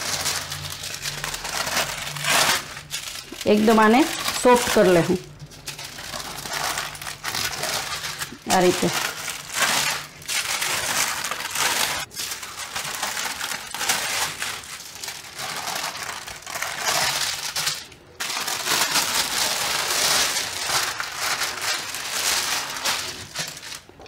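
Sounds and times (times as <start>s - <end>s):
plastic sheet crinkling: 0.0s - 24.0s.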